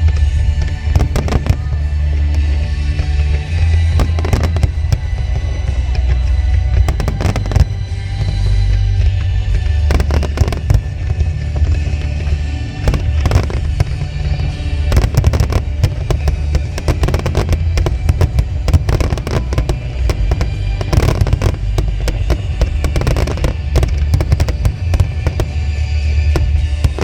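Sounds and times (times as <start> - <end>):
fireworks bursting with bangs: 0.0 - 27.0
music with heavy bass: 0.0 - 27.0.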